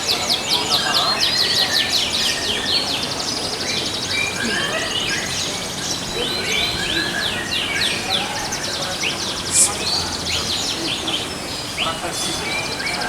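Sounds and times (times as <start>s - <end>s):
canaries singing: 0.0s - 13.0s
steady background din: 0.2s - 13.0s.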